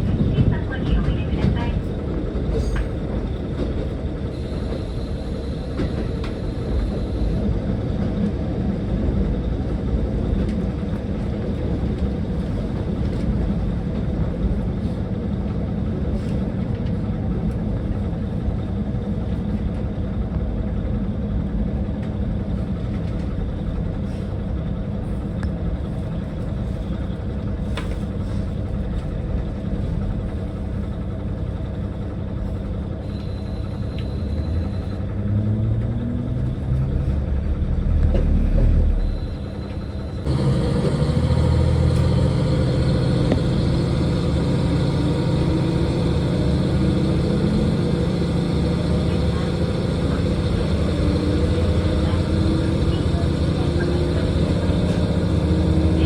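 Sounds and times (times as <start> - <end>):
train engine rumble: 0.0 - 56.0.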